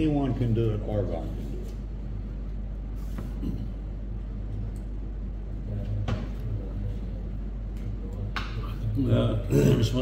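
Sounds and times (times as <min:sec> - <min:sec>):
room hum and rumble: 0:00.0 - 0:10.0.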